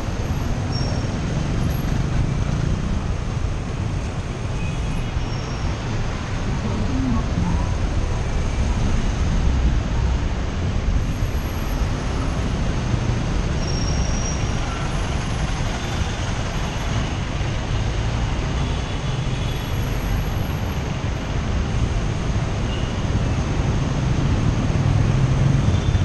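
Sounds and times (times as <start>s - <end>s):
traffic engines: 0.0s - 26.0s.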